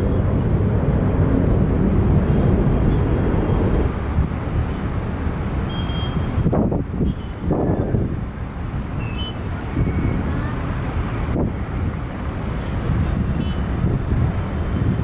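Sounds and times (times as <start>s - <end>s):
jet engine low rumble: 0.0s - 15.0s.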